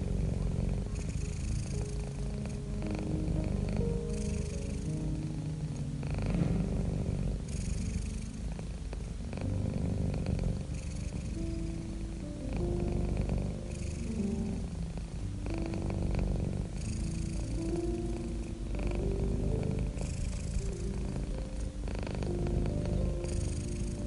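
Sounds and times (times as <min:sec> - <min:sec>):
cat purring: 0:00.0 - 0:24.0
soft sustained music notes: 0:00.0 - 0:24.0.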